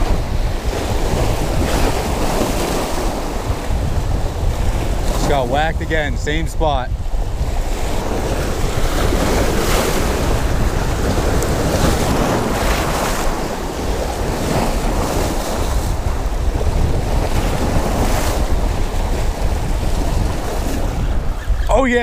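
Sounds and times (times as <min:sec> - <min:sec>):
waves splashing against rocks: 0:00.0 - 0:06.2, 0:06.8 - 0:22.0
wind on microphone: 0:00.0 - 0:22.0.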